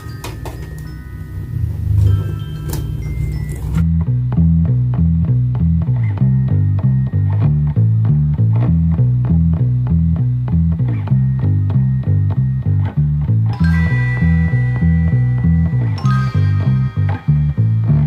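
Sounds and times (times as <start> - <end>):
plucked bass line music: 0.0 - 18.0.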